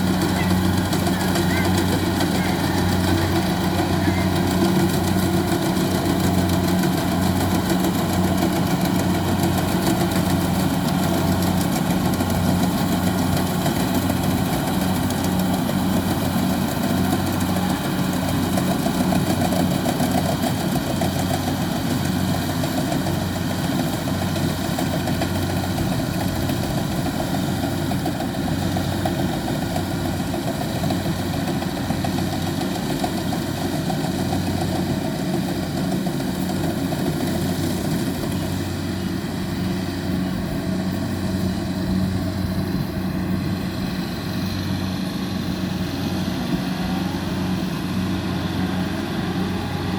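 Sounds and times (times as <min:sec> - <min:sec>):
combine harvester diesel engine: 0:00.0 - 0:49.9.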